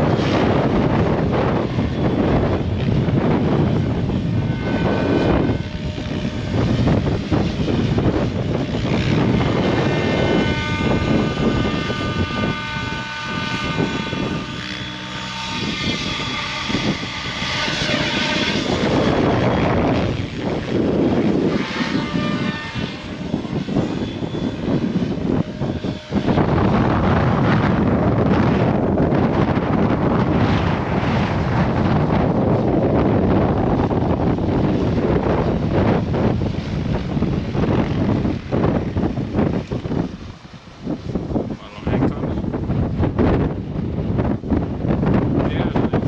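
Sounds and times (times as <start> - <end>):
rc helicopter rotor whine: 0.0 - 46.0
wind buffeting microphone: 0.0 - 46.0.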